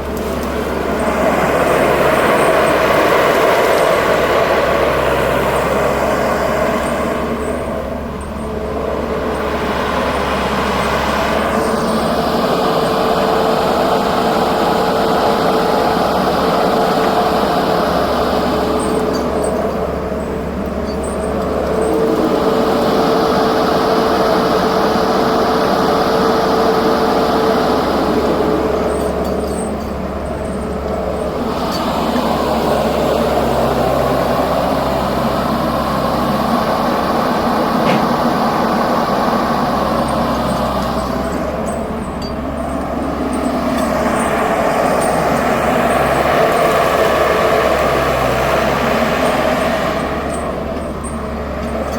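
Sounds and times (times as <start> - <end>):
large engine running: 0.0 - 51.9.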